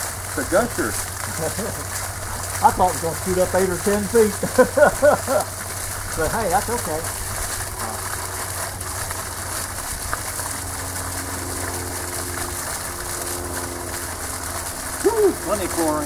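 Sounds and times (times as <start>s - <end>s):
pump low hum: 0.0s - 16.0s
water gushing and splashing: 0.0s - 16.0s.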